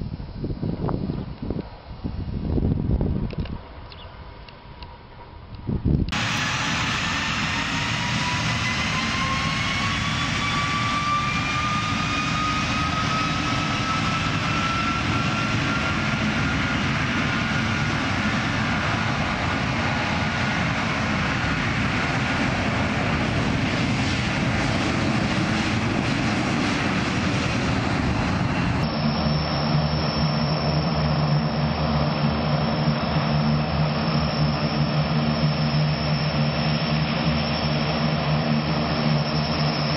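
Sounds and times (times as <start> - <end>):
jet engine turbine whine: 0.0 - 39.9
turboprop propellers droning: 0.0 - 39.9.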